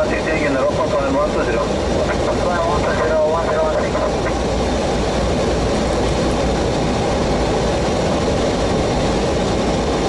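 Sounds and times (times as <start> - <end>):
airflow rushing: 0.0 - 10.0
jet engine noise: 0.0 - 10.0.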